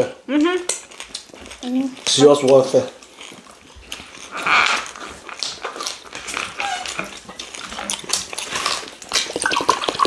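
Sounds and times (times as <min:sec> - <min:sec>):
chewing and lip smacking: 0:00.4 - 0:10.0.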